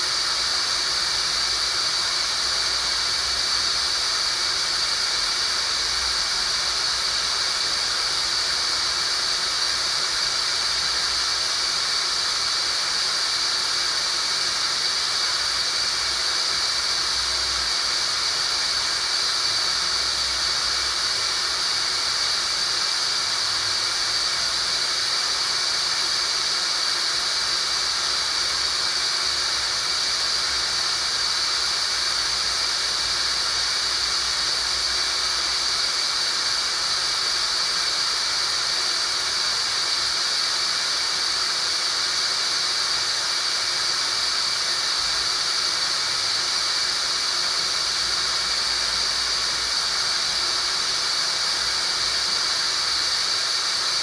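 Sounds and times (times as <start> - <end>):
steady high-pitched hiss: 0.0 - 54.0.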